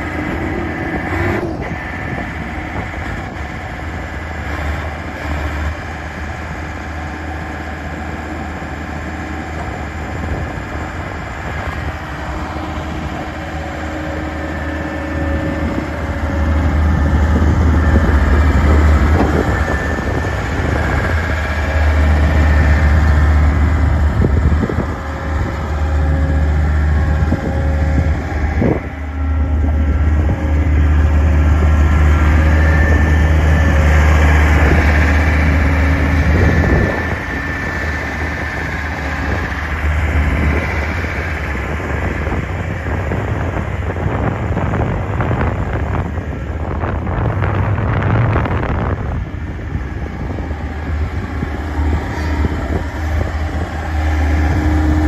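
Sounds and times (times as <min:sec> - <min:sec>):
skid steer diesel engine running: 0:00.0 - 0:55.0.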